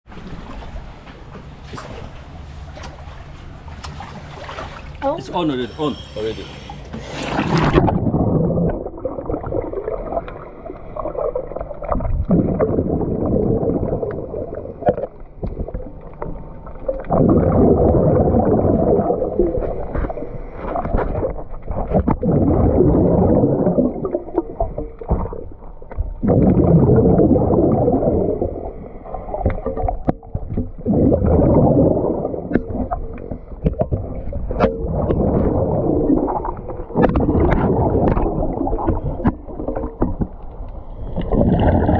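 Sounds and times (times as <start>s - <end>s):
muffled water gurgling: 0.1s - 41.9s.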